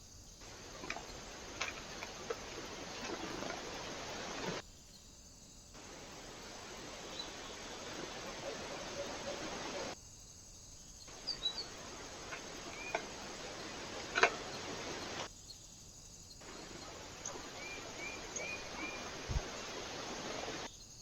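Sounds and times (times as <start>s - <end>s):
microphone hiss: 0.0s - 10.3s, 10.9s - 15.3s, 15.9s - 20.9s.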